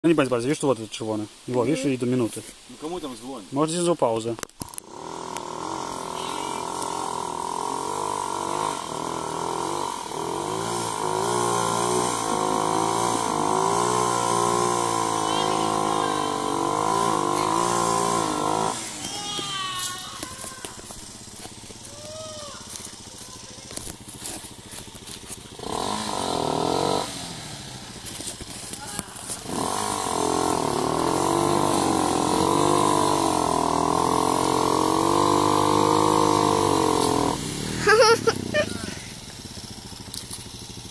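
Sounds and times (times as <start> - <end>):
quad bike engine revving: 4.6 - 40.9.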